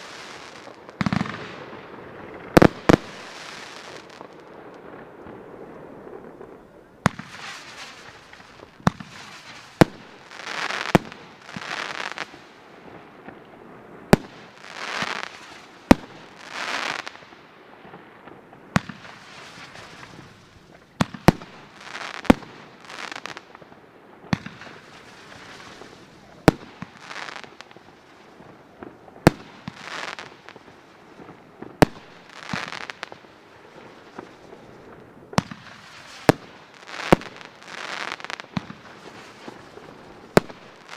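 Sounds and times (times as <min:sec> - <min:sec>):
firework crackling hiss: 0:00.0 - 0:01.7, 0:02.3 - 0:04.6, 0:07.1 - 0:12.8, 0:14.1 - 0:17.4, 0:18.8 - 0:23.5, 0:24.4 - 0:28.6, 0:29.3 - 0:40.9
firework bangs: 0:00.0 - 0:13.4, 0:14.1 - 0:23.5, 0:24.3 - 0:40.9.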